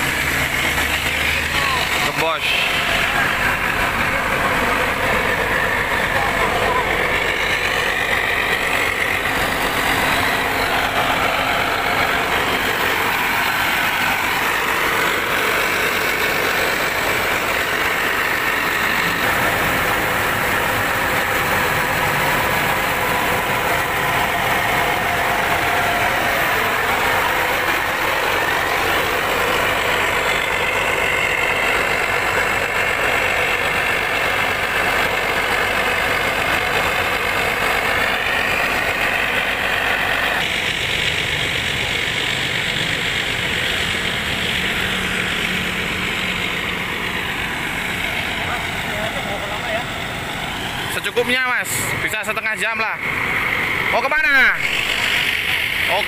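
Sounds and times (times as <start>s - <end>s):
diesel bus engine idling: 0.0s - 56.0s.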